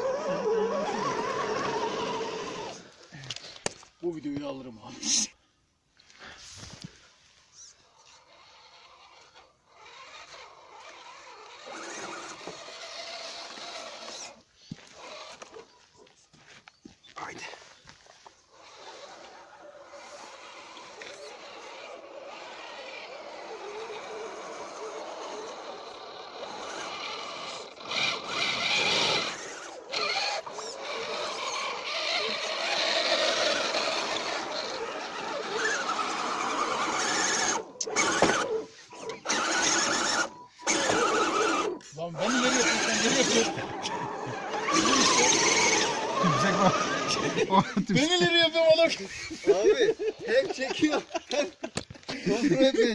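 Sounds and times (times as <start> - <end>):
toy truck electric motor whining: 0.0 - 3.4, 7.6 - 15.8, 18.4 - 49.3.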